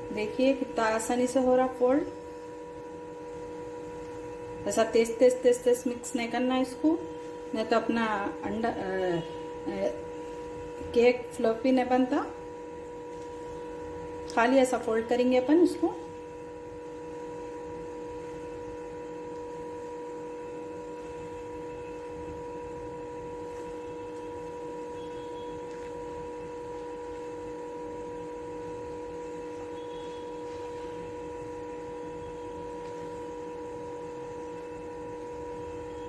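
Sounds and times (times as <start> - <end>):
steady even hum: 0.0 - 36.0.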